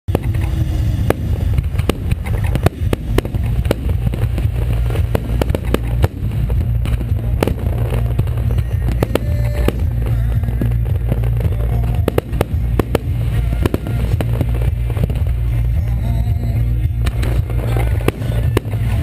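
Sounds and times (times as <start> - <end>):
fireworks bangs and crackles: 0.1 - 19.0
low rumble: 0.1 - 19.0.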